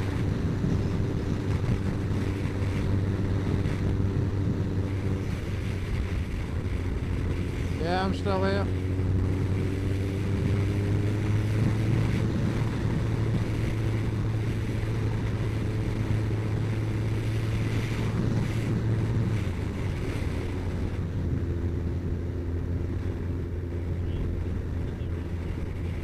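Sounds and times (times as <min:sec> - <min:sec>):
wind rushing: 0:00.0 - 0:23.0
motorcycle engine running: 0:00.0 - 0:26.0.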